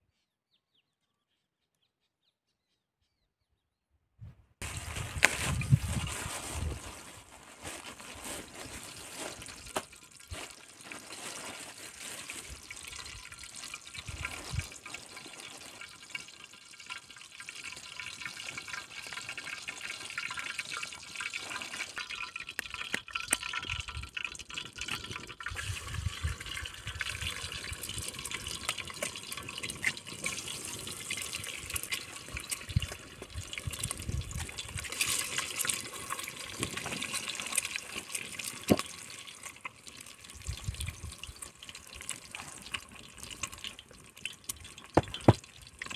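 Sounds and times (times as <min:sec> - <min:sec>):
water drips and trickles: 0:04.6 - 0:45.9
water running and splashing: 0:04.6 - 0:45.9.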